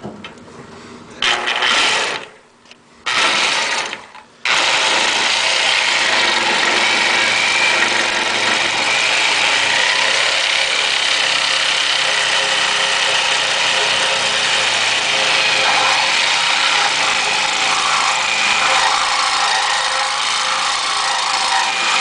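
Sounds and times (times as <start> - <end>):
reciprocating saw cutting metal: 1.2 - 2.4, 3.1 - 22.0.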